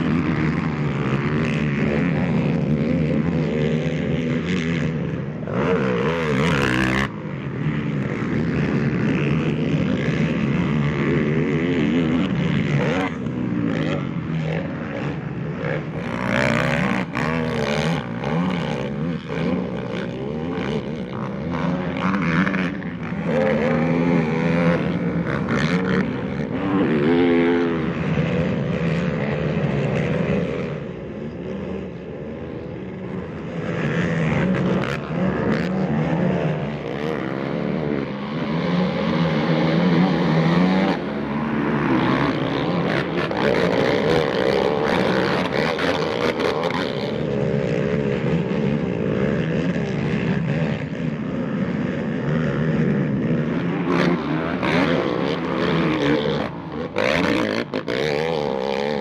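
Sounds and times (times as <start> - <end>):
atv engines revving: 0.0 - 59.0.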